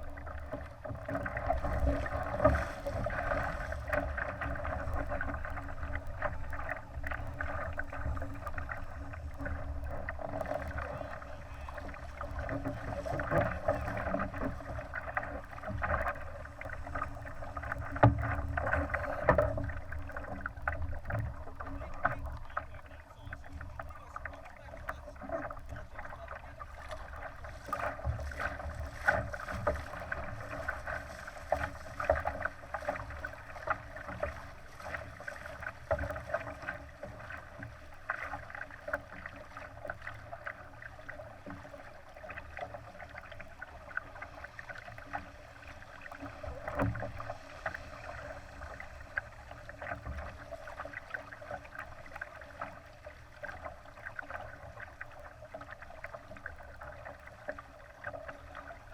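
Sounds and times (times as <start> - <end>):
small splashes: 0.0 - 58.9
water rushing against hull: 0.0 - 58.9.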